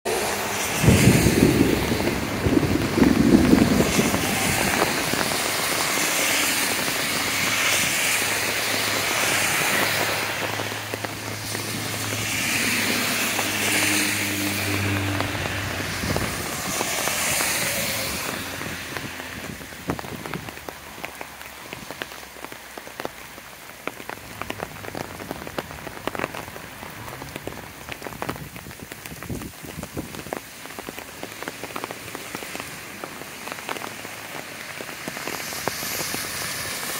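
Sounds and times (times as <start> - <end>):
cars passing on wet road: 0.0 - 36.9
heavy rain hissing: 0.1 - 36.9
raindrops striking close by: 0.1 - 36.9.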